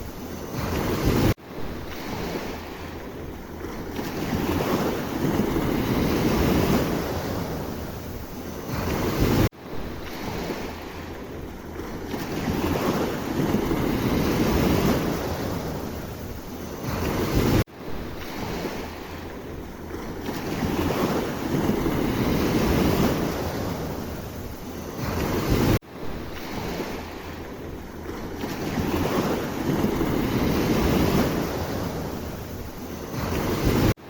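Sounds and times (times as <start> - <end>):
sea waves washing: 0.0 - 34.0
wind rumbling on microphone: 0.0 - 34.0.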